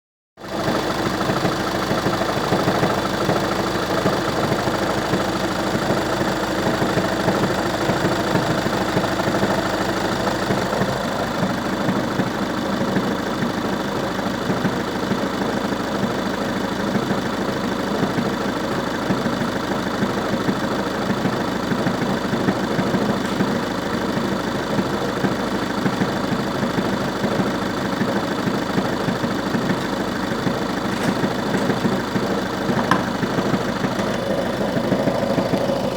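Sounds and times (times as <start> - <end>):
diesel engine idling: 0.5 - 35.9.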